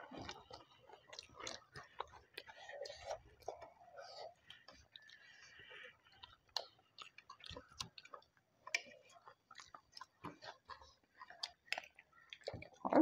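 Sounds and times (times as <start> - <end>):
chewing and mouth smacking: 0.0 - 13.0.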